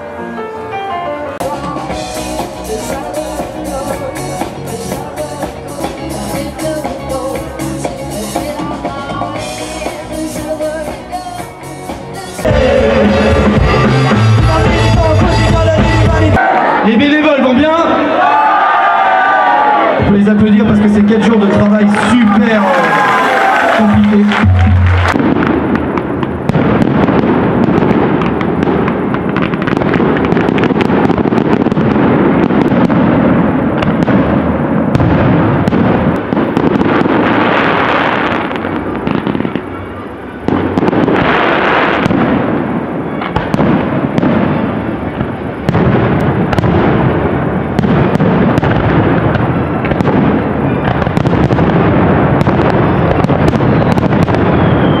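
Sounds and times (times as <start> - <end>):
fireworks bangs and crackling: 1.4 - 16.4, 20.0 - 55.0.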